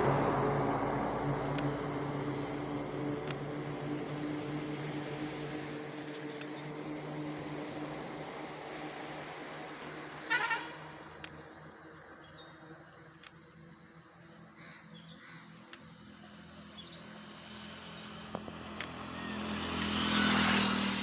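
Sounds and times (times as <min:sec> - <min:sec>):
motor vehicle approaching: 0:00.0 - 0:12.6, 0:15.0 - 0:21.0.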